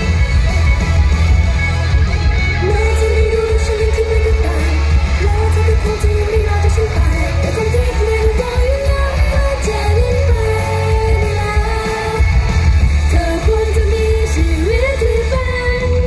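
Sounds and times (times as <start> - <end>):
pop song over sound system: 0.0 - 16.0.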